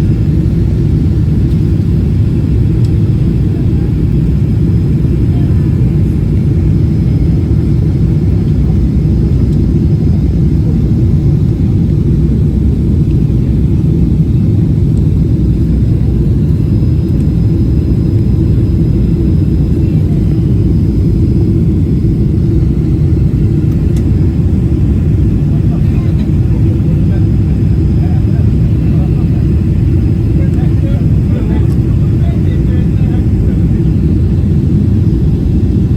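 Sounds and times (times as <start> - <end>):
jet engines rumbling in cabin: 0.0 - 35.9.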